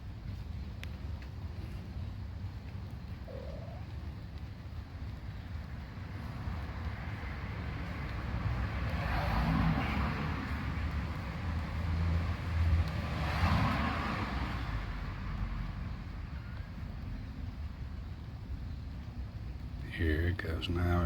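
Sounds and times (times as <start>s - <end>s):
road traffic rumble: 0.0s - 21.0s
vehicles passing: 0.0s - 21.0s.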